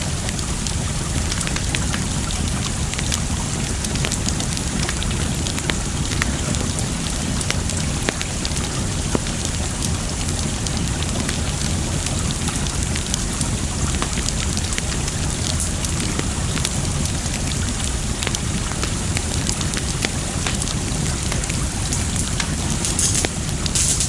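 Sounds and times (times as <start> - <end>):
rushing water: 0.0 - 24.0
wood fire crackling: 0.0 - 24.0.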